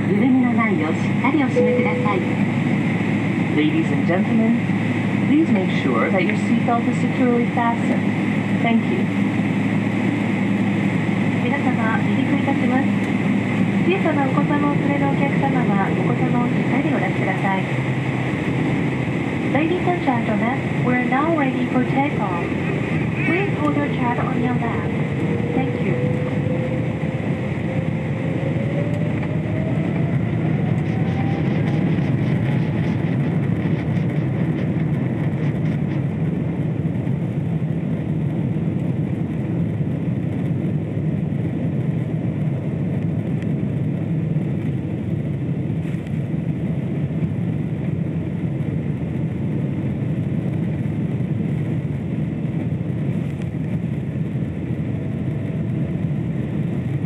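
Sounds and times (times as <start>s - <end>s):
heavy jet rumble: 0.0s - 57.0s
jet engine whine: 0.0s - 57.0s.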